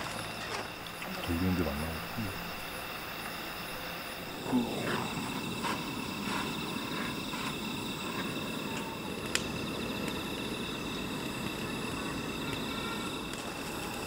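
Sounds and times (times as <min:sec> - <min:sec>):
crickets chirping: 0:00.0 - 0:14.0
fire crackles: 0:00.0 - 0:14.0
low steady rush: 0:01.1 - 0:14.0.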